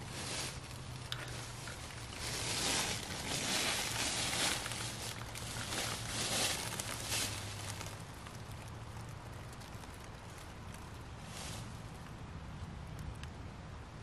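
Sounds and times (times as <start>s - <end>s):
dry leaves rustling and crunching: 0.0s - 12.0s.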